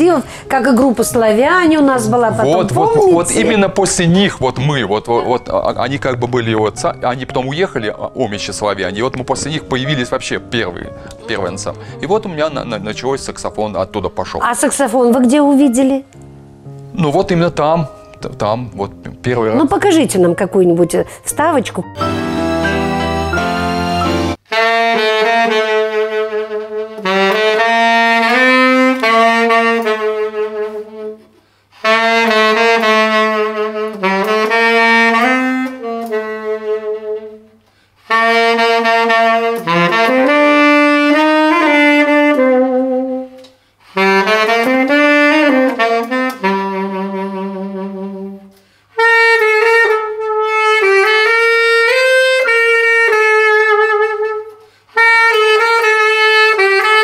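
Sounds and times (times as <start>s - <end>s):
saxophone solo melody: 1.4s - 14.3s, 21.1s - 57.0s.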